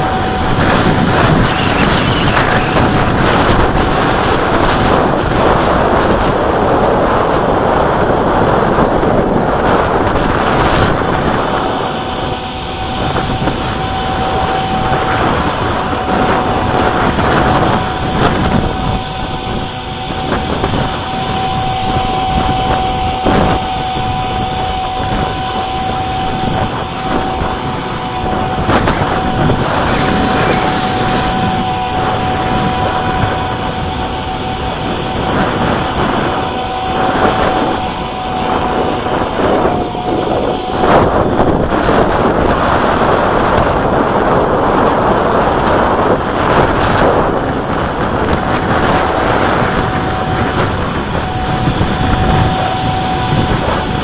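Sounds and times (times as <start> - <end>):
rc helicopter motor whine: 0.0 - 54.0
wind noise on microphone: 0.0 - 54.0.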